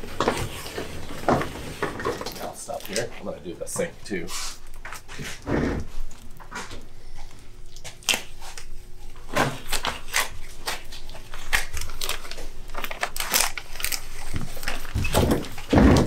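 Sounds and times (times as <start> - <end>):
foil and plastic crinkling: 0.0 - 16.0.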